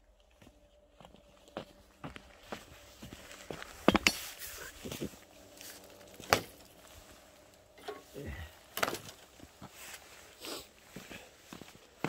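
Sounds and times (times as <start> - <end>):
footsteps on concrete and snow: 0.0 - 7.7, 9.2 - 12.0.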